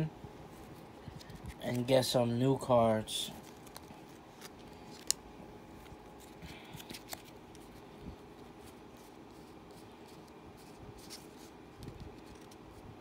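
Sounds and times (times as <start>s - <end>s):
trading cards rustling and clicking: 0.6s - 13.0s.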